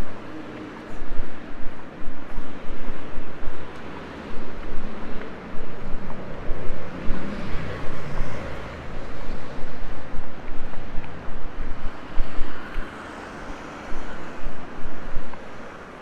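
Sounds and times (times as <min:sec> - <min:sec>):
road traffic passing: 0:00.0 - 0:16.0
wind buffeting microphone: 0:00.0 - 0:16.0.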